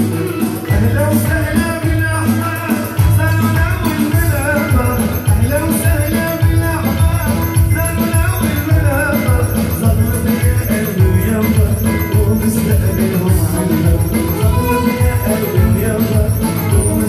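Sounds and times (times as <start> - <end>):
dance music with heavy bass: 0.0 - 17.0
man singing into microphone: 0.0 - 17.0.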